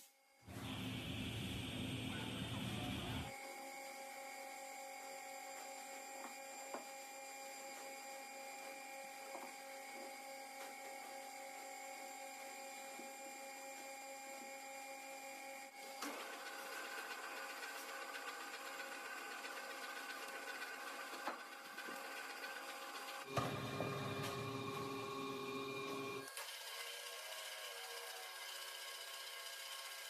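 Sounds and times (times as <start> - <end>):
machine motor whining hum: 0.5 - 30.0.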